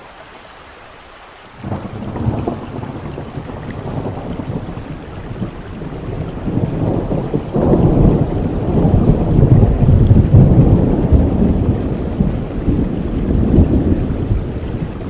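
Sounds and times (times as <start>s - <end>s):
steady rain: 0.0s - 15.0s
thunder rolling: 1.6s - 15.0s.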